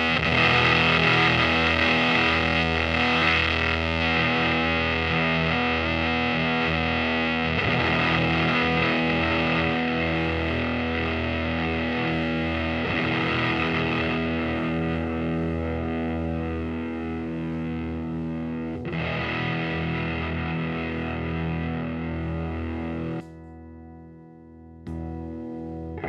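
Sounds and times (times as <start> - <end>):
fuzzed electric guitar chords: 0.0 - 26.0.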